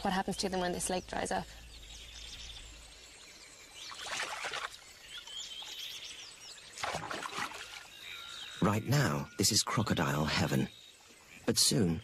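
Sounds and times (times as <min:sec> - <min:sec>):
wild birds chirping and whistling: 0:00.0 - 0:12.0.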